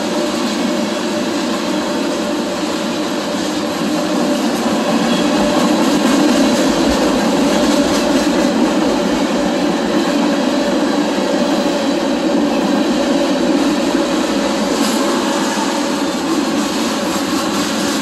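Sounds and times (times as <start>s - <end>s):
steel wheels rumbling on rails: 0.0s - 18.0s.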